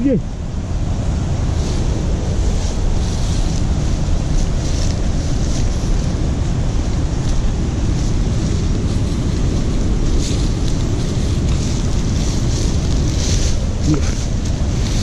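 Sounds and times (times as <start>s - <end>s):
wind buffeting microphone: 0.0s - 15.0s
footsteps through leaf litter: 1.4s - 15.0s.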